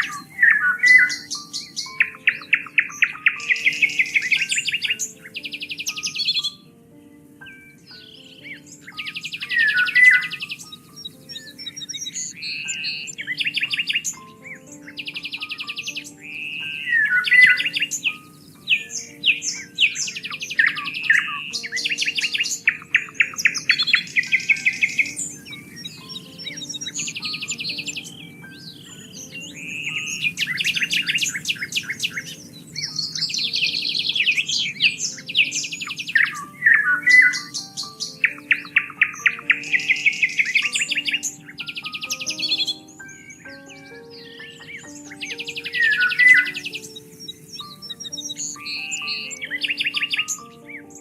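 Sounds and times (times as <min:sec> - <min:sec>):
soft background music: 0:00.0 - 0:51.0
songbirds singing: 0:00.0 - 0:51.0.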